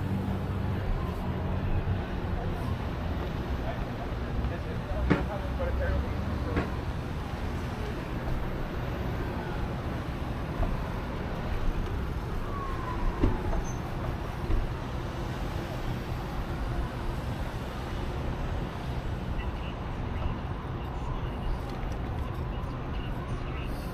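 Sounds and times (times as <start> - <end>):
road traffic: 0.0 - 23.9.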